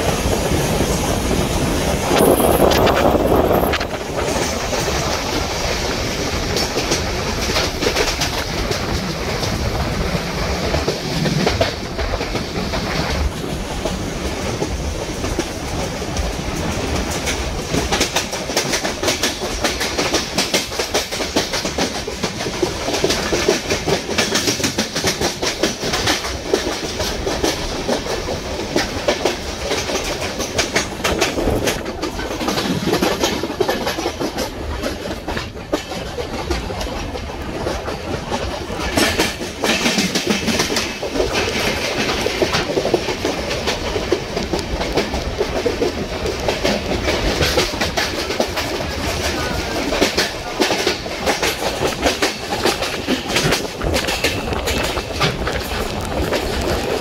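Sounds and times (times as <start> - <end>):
train running noise: 0.0 - 57.0
train wheels clattering on rails: 0.0 - 57.0.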